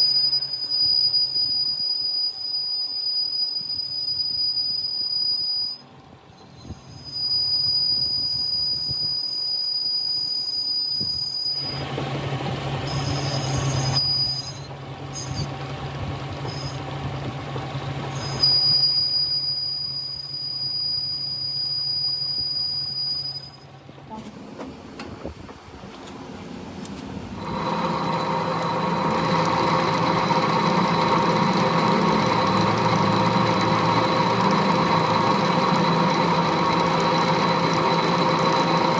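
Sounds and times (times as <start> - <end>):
high-pitched mechanical squeal: 0.0 - 11.8, 12.8 - 15.7, 16.4 - 16.9, 18.1 - 24.2, 27.4 - 38.9.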